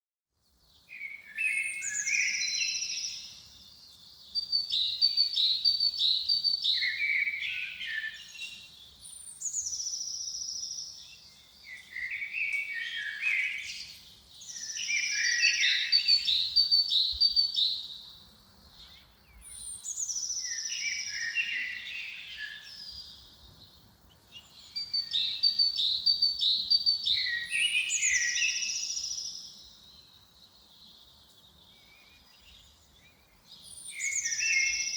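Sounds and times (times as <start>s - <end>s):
songbird whistle and trill: 0.8s - 18.1s, 18.8s - 23.3s, 24.4s - 30.2s, 31.6s - 34.9s.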